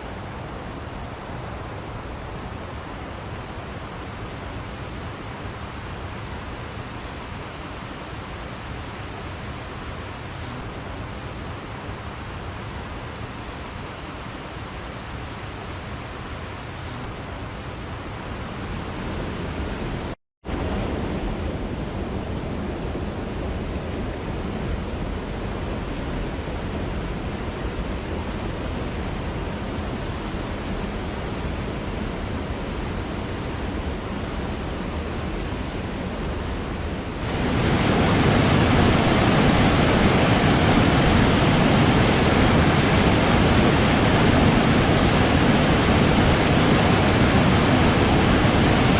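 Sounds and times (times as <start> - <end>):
rushing waterfall: 0.0 - 48.9.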